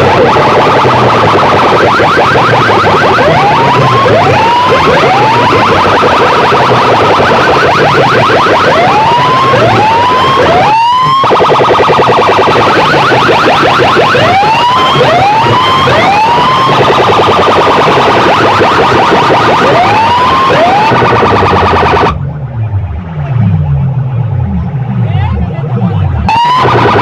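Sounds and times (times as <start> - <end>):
siren effect whoops: 0.0 - 23.0, 26.2 - 27.0
stuttering pulse and low beat: 0.0 - 27.0.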